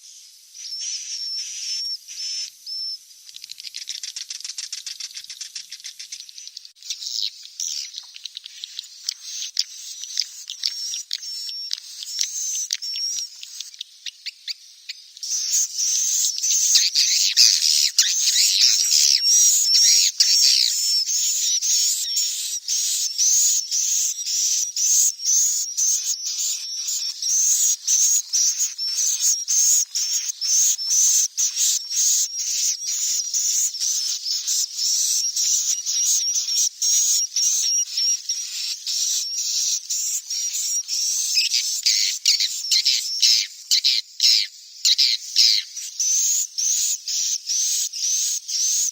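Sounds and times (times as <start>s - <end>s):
bird chicks chirping: 0.0s - 48.9s.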